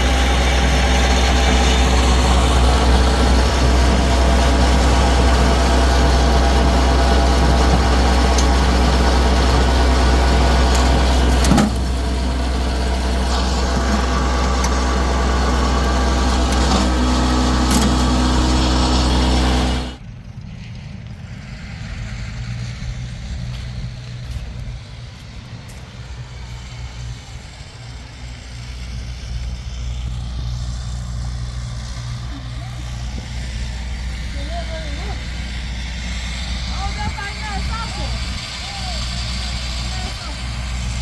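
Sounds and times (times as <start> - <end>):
engine running with even hum: 0.0 - 41.0
low rumble: 0.0 - 41.0.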